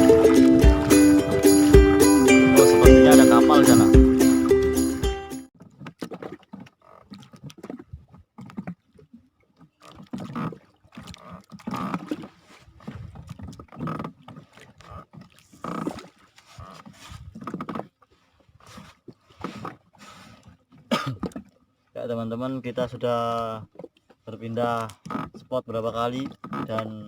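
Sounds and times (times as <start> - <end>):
paddle strokes splashing water: 0.0 - 22.0, 22.8 - 27.0.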